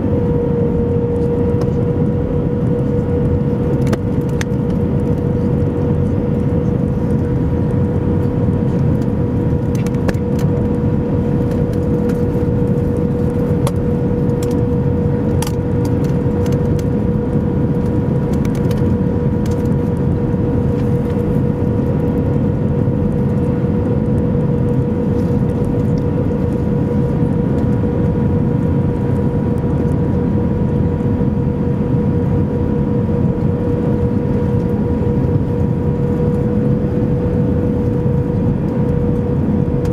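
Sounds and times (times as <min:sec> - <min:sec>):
aircraft cabin engine and airflow rush: 0:00.0 - 0:39.9
constant hum: 0:00.0 - 0:39.9.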